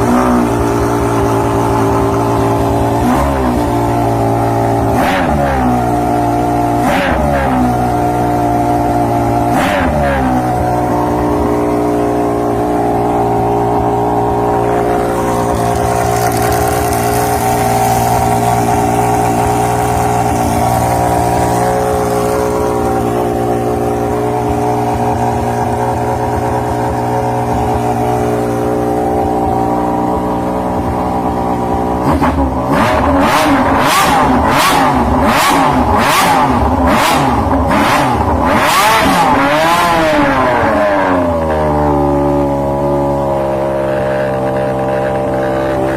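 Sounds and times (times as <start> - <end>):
engine exhaust idling and revving: 0.0 - 45.9.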